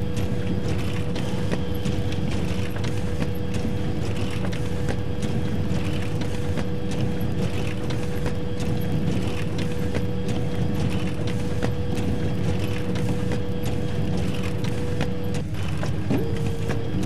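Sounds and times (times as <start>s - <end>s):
photocopier running: 0.0s - 17.0s.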